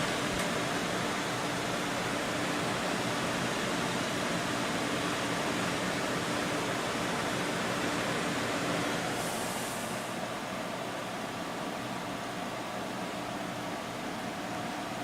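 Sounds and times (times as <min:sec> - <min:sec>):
computer fans whooshing: 0:00.0 - 0:15.0.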